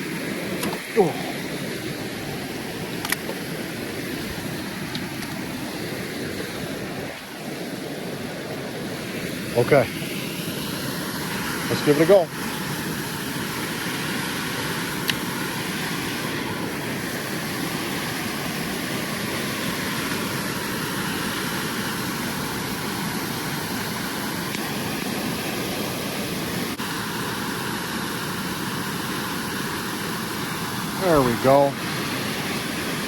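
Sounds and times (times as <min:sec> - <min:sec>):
waterfall rushing into pool: 0:00.0 - 0:33.0.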